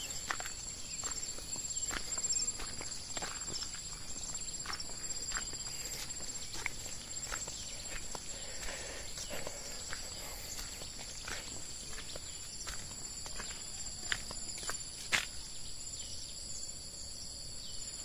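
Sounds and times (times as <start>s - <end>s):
footsteps on dirt path: 0.0s - 15.6s
insects droning: 0.0s - 18.0s.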